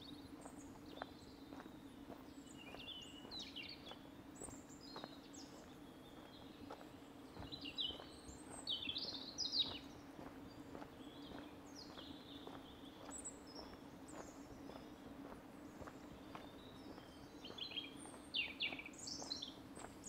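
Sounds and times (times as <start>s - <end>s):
songbirds chirping and singing: 0.0s - 20.0s
soft footsteps: 0.2s - 20.0s.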